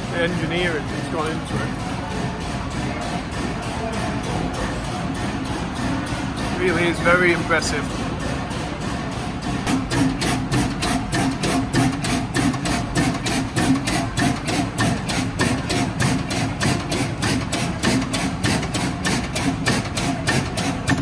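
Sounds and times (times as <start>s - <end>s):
large engine knocking slowly: 0.0s - 21.0s.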